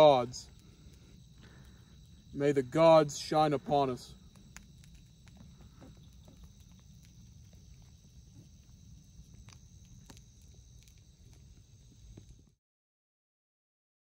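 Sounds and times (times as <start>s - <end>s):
insects chirring: 0.0s - 12.6s.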